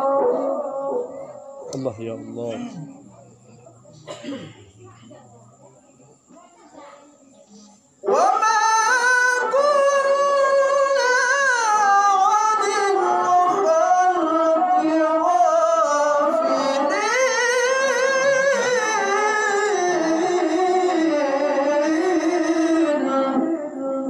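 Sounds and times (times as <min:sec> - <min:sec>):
man chanting recitation: 0:00.0 - 0:03.8, 0:08.0 - 0:24.0.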